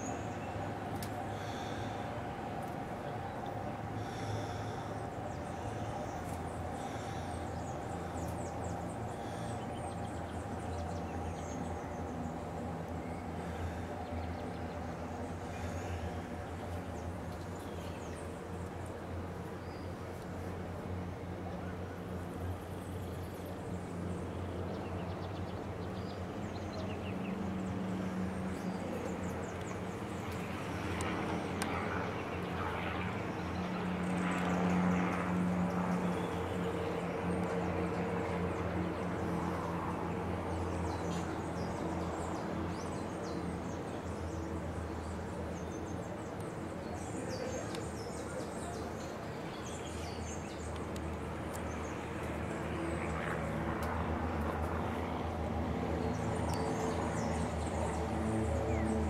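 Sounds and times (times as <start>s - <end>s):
distant traffic hum: 0.0s - 59.0s.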